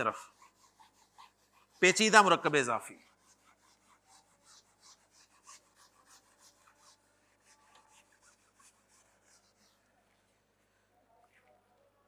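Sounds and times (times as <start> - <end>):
eraser wiping whiteboard: 0.0 - 10.2.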